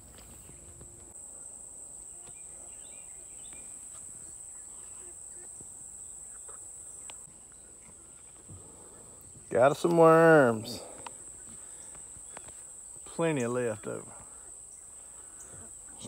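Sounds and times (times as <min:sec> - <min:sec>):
insects chirping chorus: 0:00.0 - 0:16.0.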